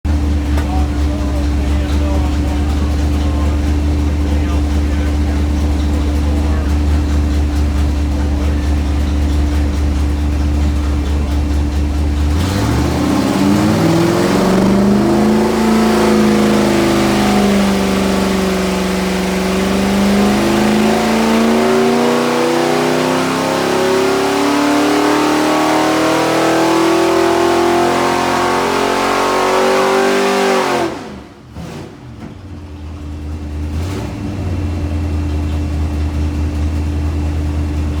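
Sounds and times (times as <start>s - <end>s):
car engine revving on dyno: 0.1s - 32.2s, 33.6s - 35.2s.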